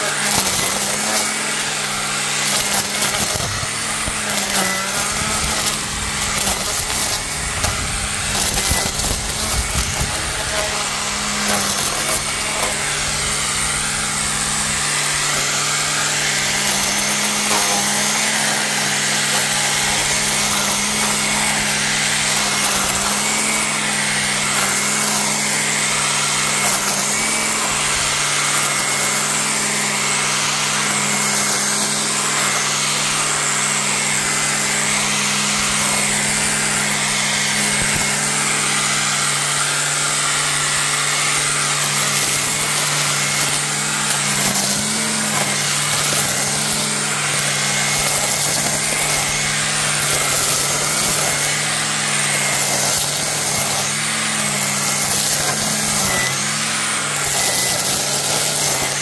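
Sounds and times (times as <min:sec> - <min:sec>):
string trimmer cutting weeds: 0:00.0 - 0:59.0.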